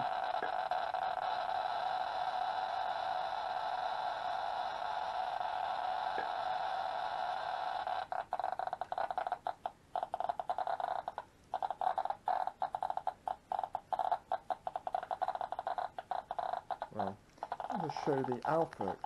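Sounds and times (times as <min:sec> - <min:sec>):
continuous tone: 0:00.0 - 0:19.0.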